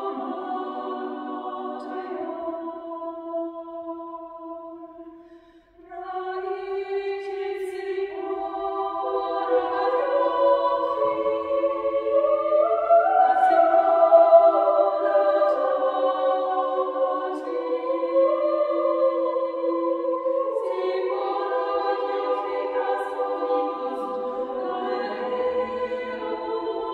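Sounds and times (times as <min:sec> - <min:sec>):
choir singing unaccompanied: 0:00.0 - 0:26.9.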